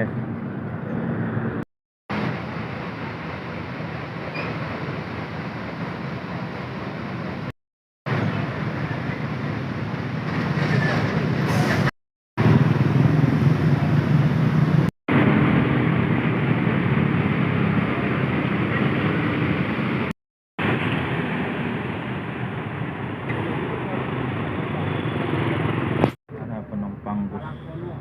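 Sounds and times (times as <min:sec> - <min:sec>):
bus terminal noise: 0:00.0 - 0:07.5, 0:08.1 - 0:28.0.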